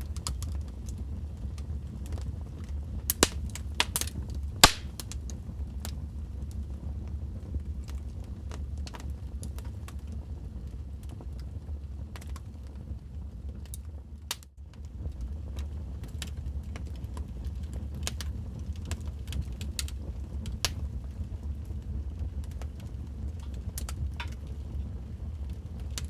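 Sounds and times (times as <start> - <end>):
low rumble of fire: 0.0 - 26.0
wood fire crackling: 0.0 - 26.0.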